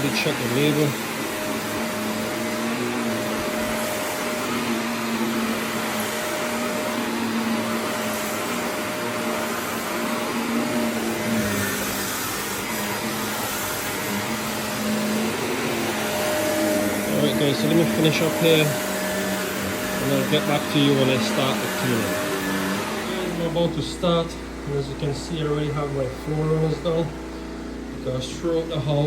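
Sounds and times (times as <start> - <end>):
vacuum cleaner running on rug: 0.0 - 29.0.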